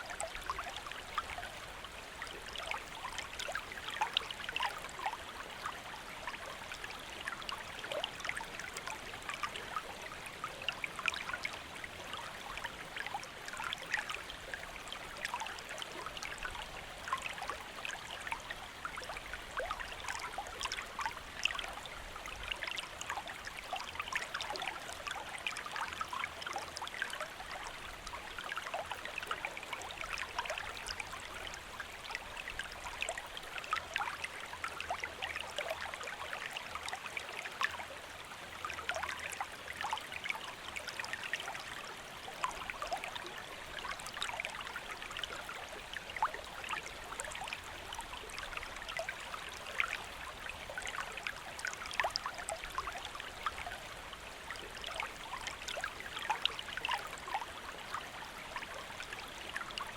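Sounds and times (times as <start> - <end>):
shallow stream flowing: 0.0 - 59.9.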